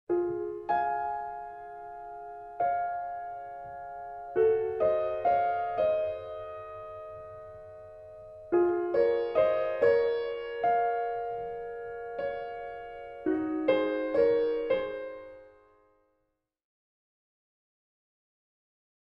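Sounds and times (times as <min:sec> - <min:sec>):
slow piano notes and chords: 0:00.1 - 0:16.2.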